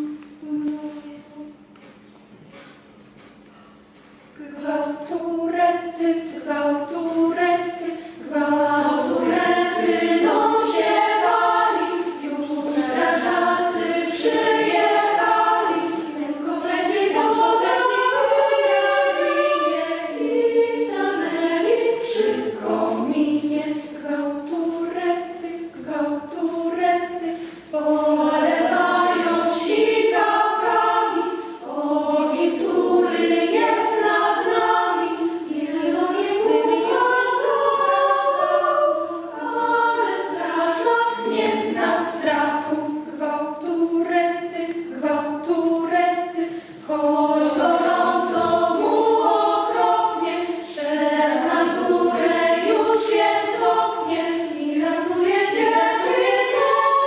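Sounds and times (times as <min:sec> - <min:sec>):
children's choir singing: 0:00.0 - 0:01.7, 0:04.4 - 0:57.0.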